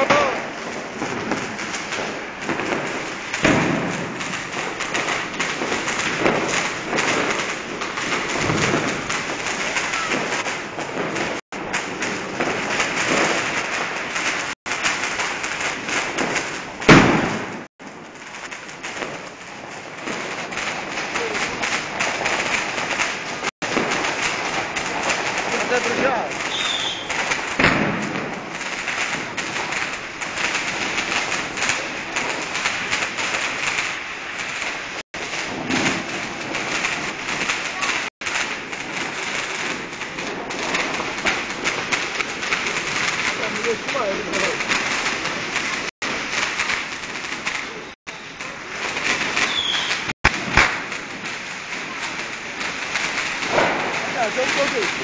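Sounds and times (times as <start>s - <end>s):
firework fountain crackling hiss: 0.0s - 55.0s.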